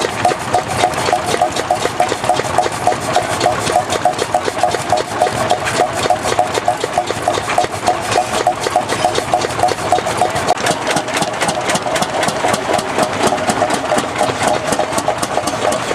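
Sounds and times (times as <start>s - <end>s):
tractor engine idling with knocks: 0.0s - 15.9s.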